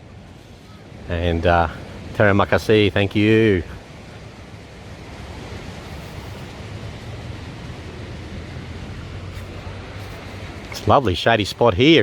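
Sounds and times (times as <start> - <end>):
ocean waves on sandy beach: 0.0 - 12.0.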